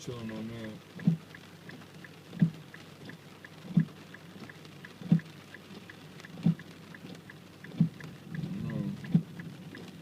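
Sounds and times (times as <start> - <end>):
faint fast ticking: 0.0 - 10.0
rain on car: 0.0 - 10.0
windshield wipers thudding: 0.2 - 10.0.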